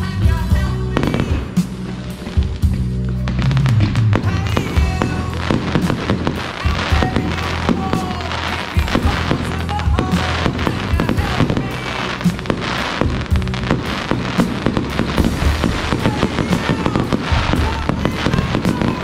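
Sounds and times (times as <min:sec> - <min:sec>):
fireworks bangs and crackling: 0:00.0 - 0:19.0
music with bass line: 0:00.0 - 0:19.0.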